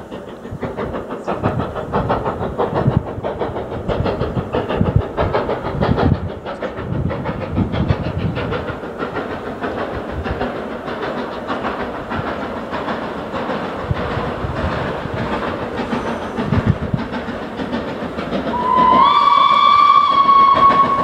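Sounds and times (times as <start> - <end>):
steam locomotive exhaust beating: 0.0 - 21.0.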